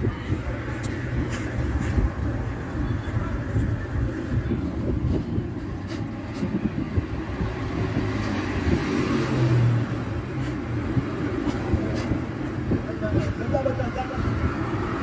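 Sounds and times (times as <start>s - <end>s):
cars driving past: 0.3s - 15.0s.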